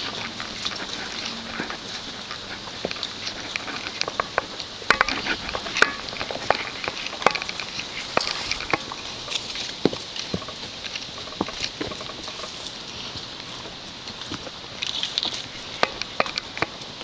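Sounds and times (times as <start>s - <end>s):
brush crackling and scraping: 0.0s - 17.0s
hooves on dirt trail: 0.0s - 17.0s
twigs snapping: 0.0s - 17.0s.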